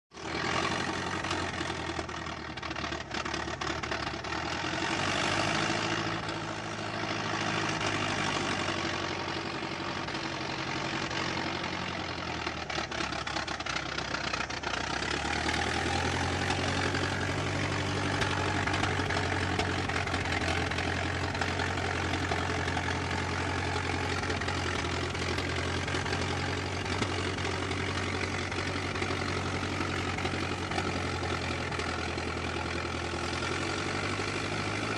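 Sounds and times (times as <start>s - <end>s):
old car engine running: 0.1s - 34.9s.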